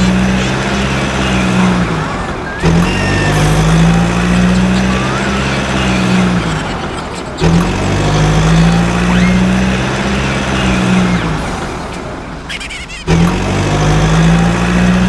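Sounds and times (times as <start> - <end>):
heavy vehicle engine drone: 0.0 - 15.0.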